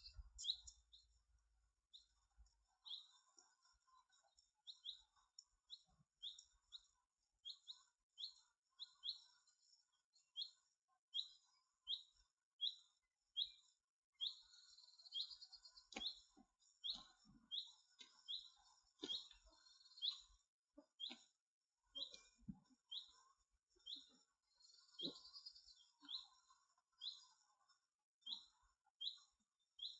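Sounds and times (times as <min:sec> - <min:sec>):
small bird chirping: 0:00.0 - 0:01.2, 0:01.8 - 0:29.9.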